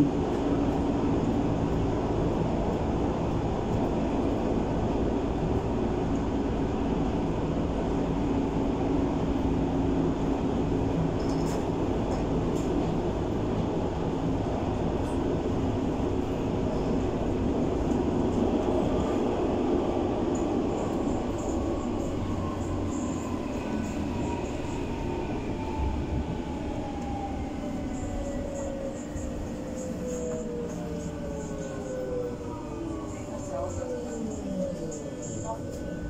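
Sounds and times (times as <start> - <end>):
train wheels rumbling: 0.0 - 36.0.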